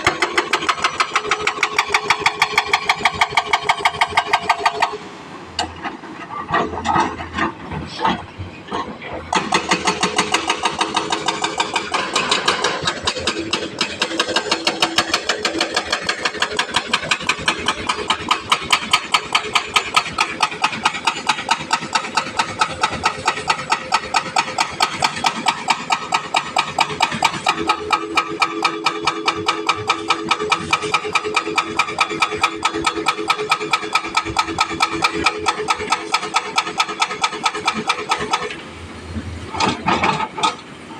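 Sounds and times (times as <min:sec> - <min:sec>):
hydraulic breaker hammering rock: 0:00.0 - 0:05.0, 0:09.3 - 0:38.6.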